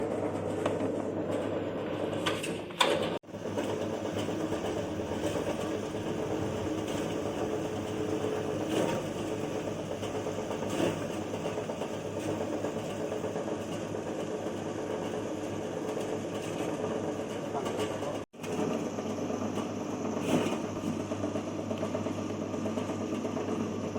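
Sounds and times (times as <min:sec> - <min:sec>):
meat shredder motor hum: 0:00.0 - 0:23.9.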